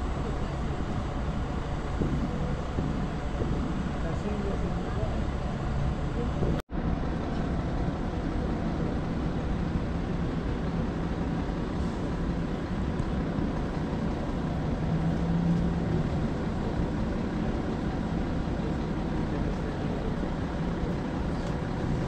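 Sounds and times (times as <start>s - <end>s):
low rumble of road traffic: 0.0s - 22.0s
vehicle engine hum: 0.0s - 22.0s.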